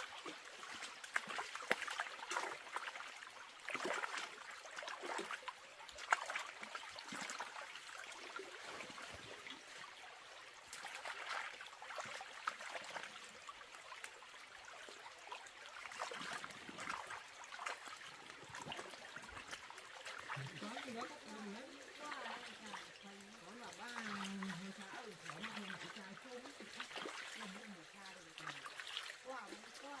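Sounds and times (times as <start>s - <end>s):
water drips: 0.0s - 30.0s
water trickling and splashing: 0.0s - 30.0s.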